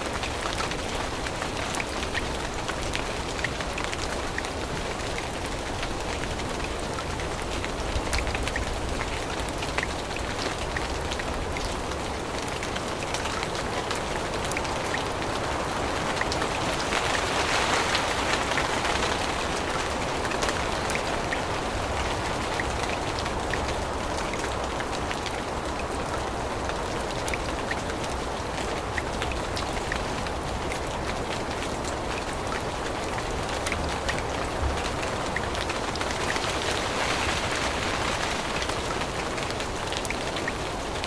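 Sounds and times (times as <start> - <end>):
rain falling through forest: 0.0 - 41.0
raindrops ticking: 0.1 - 41.0.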